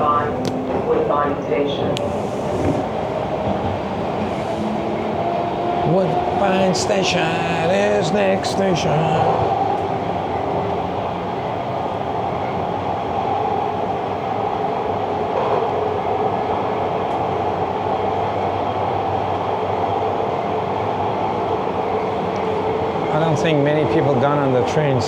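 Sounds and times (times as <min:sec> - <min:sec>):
subway train running noise: 0:00.0 - 0:25.0.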